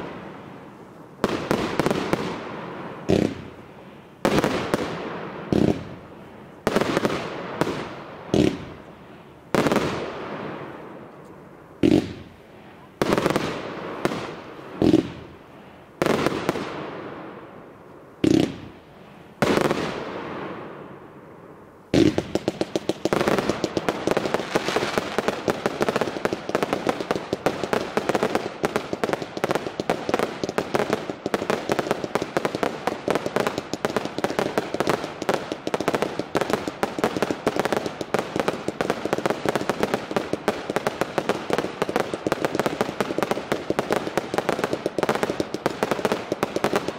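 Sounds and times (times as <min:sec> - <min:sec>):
firework bursts with echoing tail: 0:00.0 - 0:11.0, 0:11.8 - 0:21.2, 0:21.9 - 0:46.9
rapid firework bangs and crackles: 0:00.0 - 0:11.0, 0:11.8 - 0:17.4, 0:18.2 - 0:20.8, 0:21.9 - 0:46.9.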